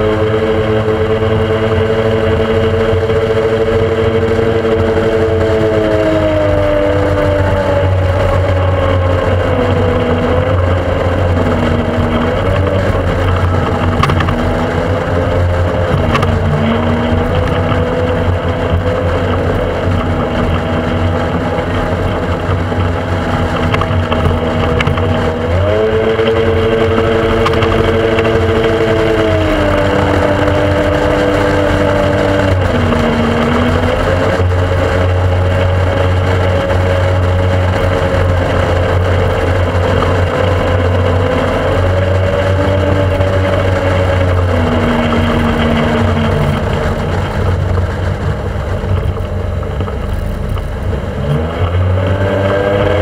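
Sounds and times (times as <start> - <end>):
rush of wind and water: 0.0 - 53.0
speedboat engine running: 0.0 - 53.0.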